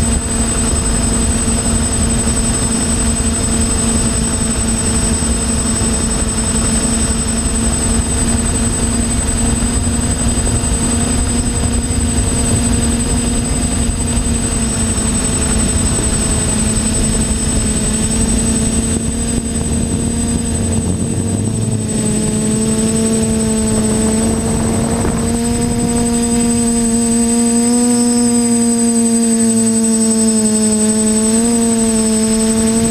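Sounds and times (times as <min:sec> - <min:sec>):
wind rumble on microphone: 0:00.0 - 0:28.5
drone motors humming: 0:00.0 - 0:32.9.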